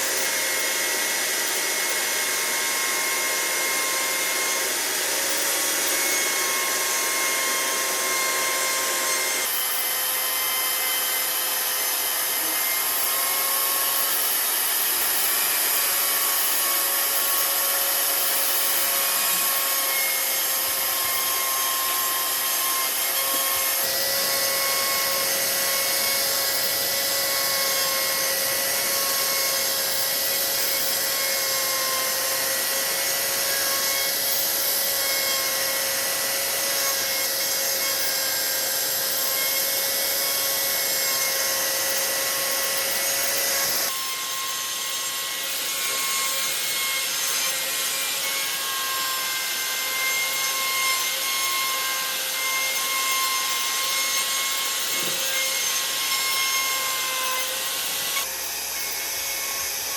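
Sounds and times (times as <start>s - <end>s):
power tool grinding wood: 0.0s - 59.9s.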